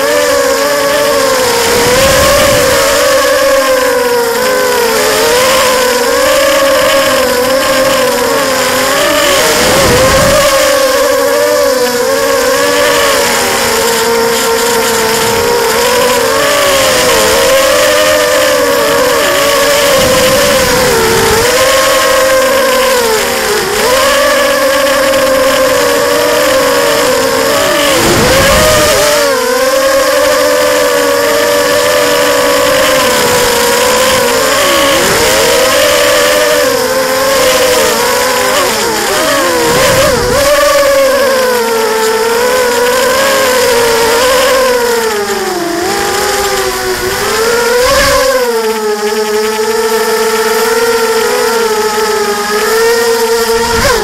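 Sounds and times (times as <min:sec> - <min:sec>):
quadcopter motors buzzing whine: 0:00.0 - 0:54.0.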